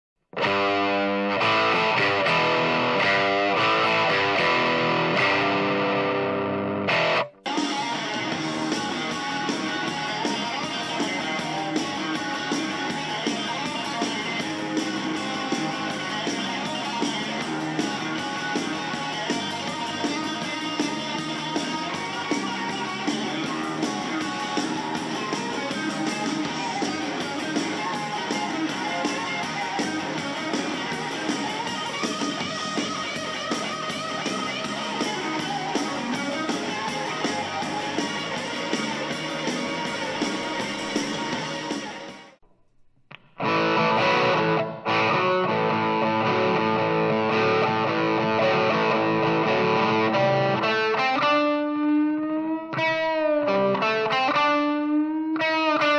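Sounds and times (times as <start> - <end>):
bass: 0.3 - 50.8
drums: 0.4 - 51.3
electric guitar lead: 0.4 - 55.9.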